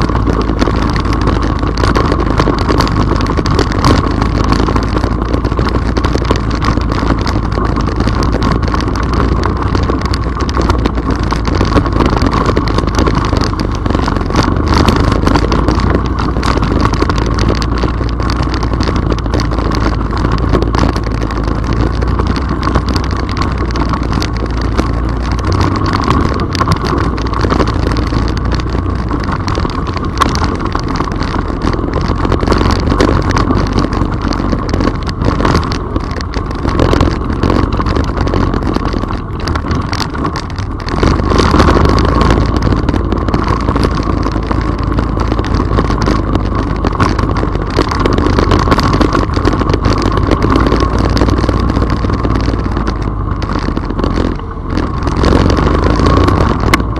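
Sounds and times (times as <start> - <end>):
atv engine running: 0.0 - 56.9.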